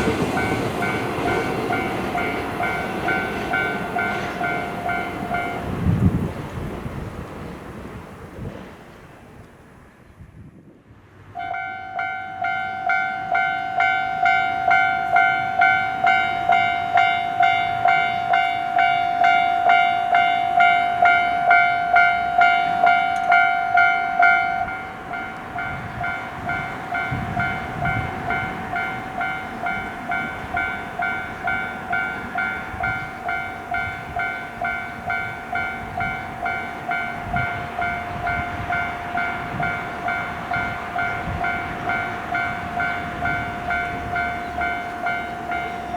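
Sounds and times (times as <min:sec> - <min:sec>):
level-crossing warning bell ringing: 0:00.0 - 0:06.2, 0:11.3 - 0:45.9.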